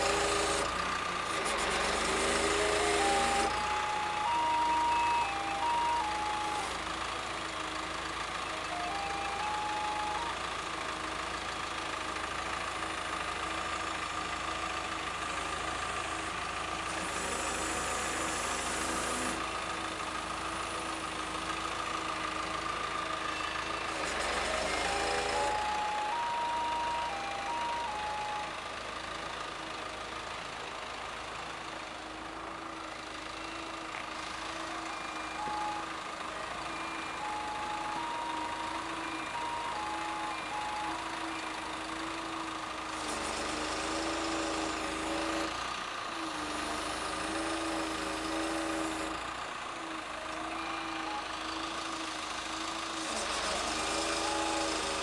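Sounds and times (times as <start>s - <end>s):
crane hydraulics humming: 0.0s - 55.0s.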